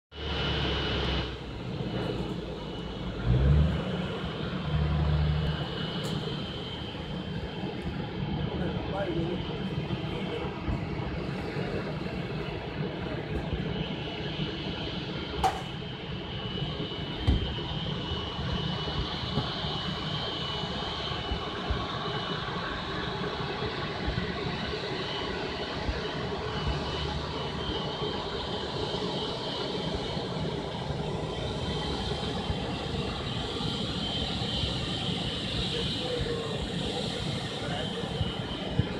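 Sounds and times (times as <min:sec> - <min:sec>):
distant jet engines idling: 0:00.2 - 0:38.9.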